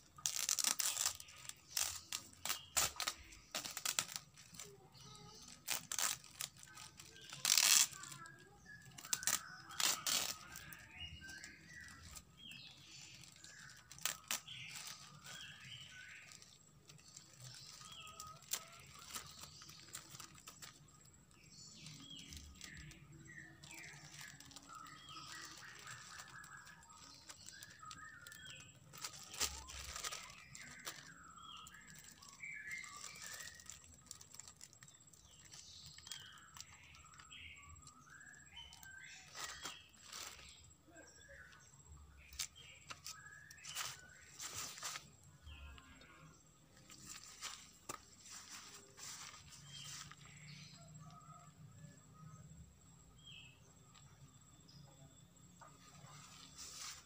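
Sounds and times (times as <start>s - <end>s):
plastic wrap crinkling and tearing: 0.0s - 51.9s, 55.8s - 57.0s
birds chirping: 0.0s - 57.0s.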